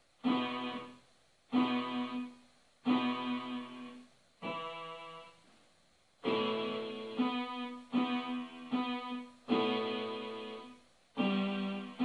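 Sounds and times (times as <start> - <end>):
electronic keyboard slow melody: 0.2 - 5.5, 6.2 - 12.0.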